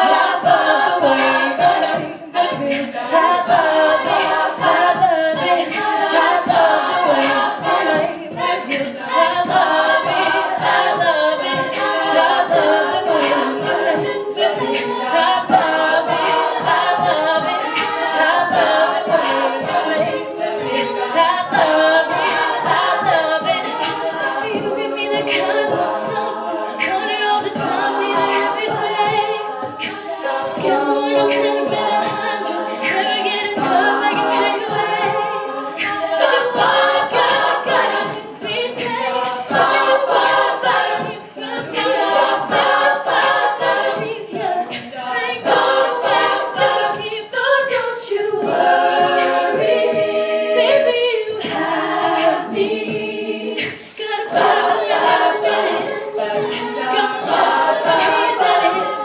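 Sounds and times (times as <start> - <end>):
female group singing in harmony: 0.0 - 59.0.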